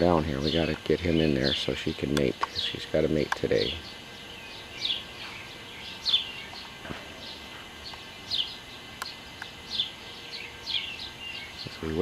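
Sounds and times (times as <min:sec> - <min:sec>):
outdoor background noise: 0:00.0 - 0:12.0
songbird chirping: 0:00.0 - 0:12.0.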